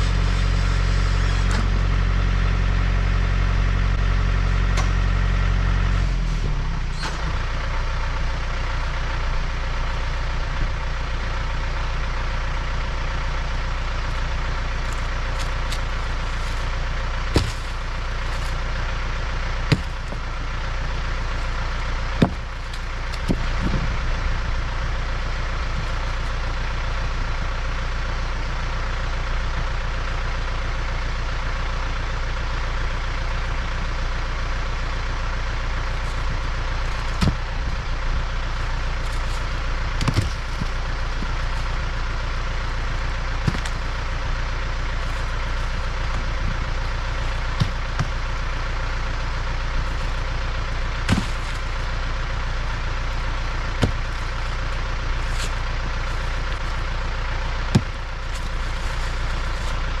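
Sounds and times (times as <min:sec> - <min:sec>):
diesel tractor engine running: 0:00.0 - 1:00.0.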